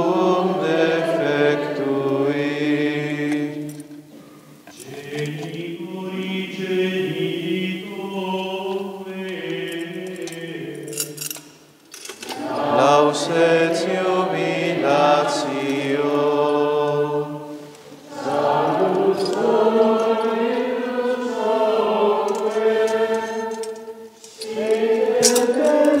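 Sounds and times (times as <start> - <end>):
men singing plainchant in unison: 0.0 - 4.0, 4.6 - 11.3, 12.2 - 26.0.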